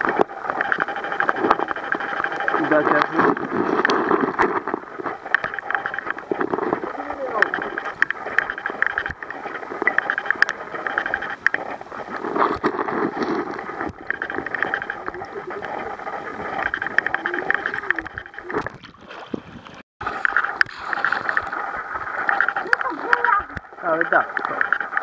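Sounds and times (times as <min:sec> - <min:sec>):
small crackles and clicks: 0:00.0 - 0:25.0
underwater water sloshing: 0:00.0 - 0:25.0.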